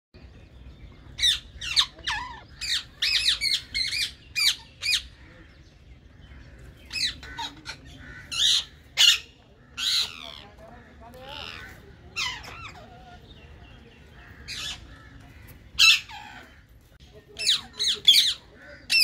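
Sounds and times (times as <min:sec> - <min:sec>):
parrots squawking: 0:01.1 - 0:05.4, 0:06.1 - 0:19.0.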